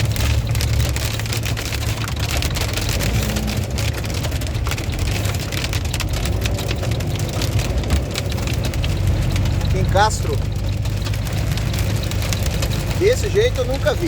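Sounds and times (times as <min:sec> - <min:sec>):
low rumble: 0:00.0 - 0:13.8
heavy hail clattering: 0:00.0 - 0:14.0.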